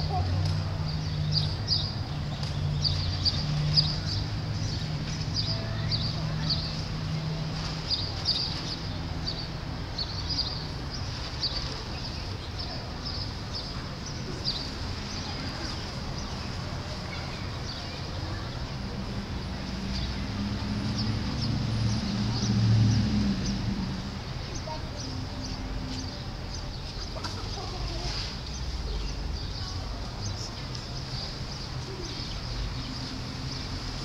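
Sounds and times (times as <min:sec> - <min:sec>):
small birds chirping: 0:00.0 - 0:18.8, 0:19.4 - 0:34.0.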